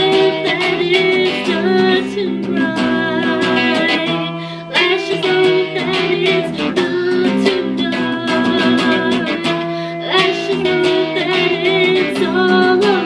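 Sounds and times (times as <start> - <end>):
amplified electric guitar: 0.0 - 13.0
woman singing: 0.0 - 13.0.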